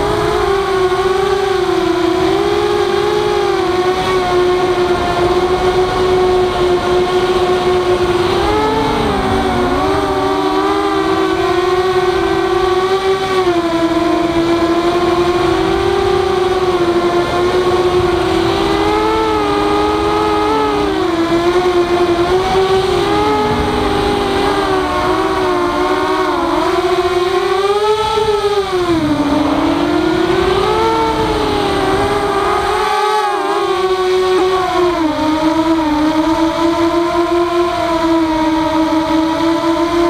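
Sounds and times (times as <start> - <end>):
quadcopter motors whining: 0.0 - 40.0.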